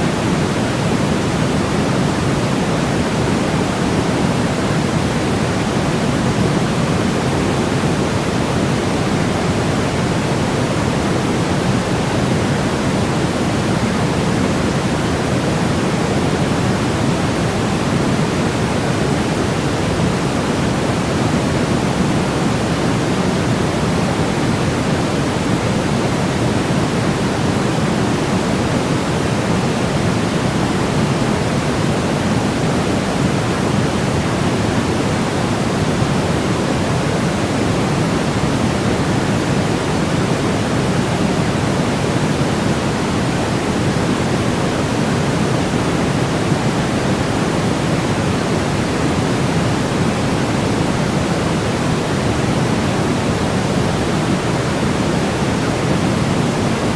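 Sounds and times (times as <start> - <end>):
white noise rush: 0.0 - 56.9.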